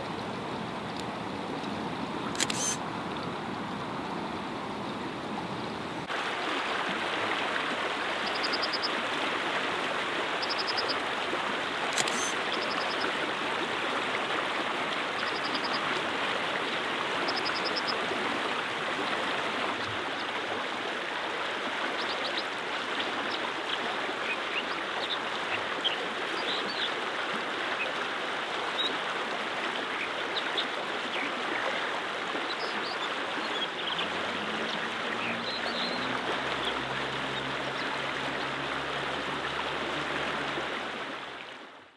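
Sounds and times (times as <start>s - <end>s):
water rushing over stones: 0.0s - 41.9s.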